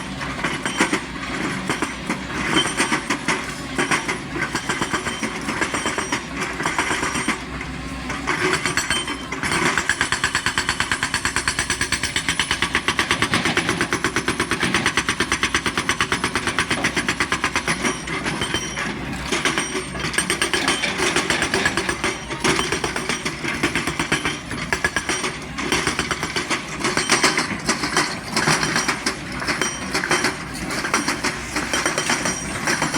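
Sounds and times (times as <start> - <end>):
excavator diesel engine rattling: 0.0 - 32.9.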